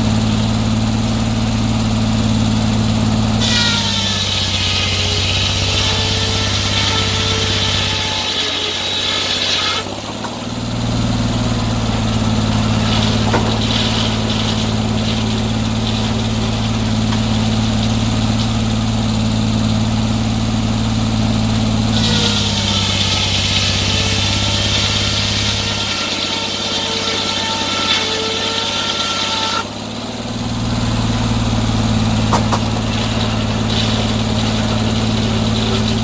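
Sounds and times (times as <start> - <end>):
sawmill engine running: 0.0 - 36.0.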